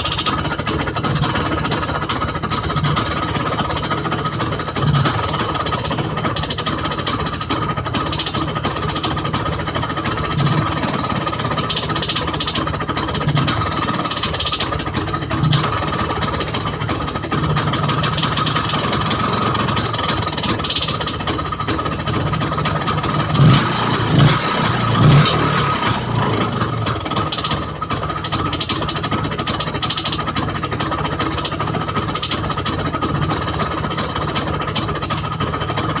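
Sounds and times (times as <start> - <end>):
two-stroke motorcycle engine knocking: 0.0 - 36.0.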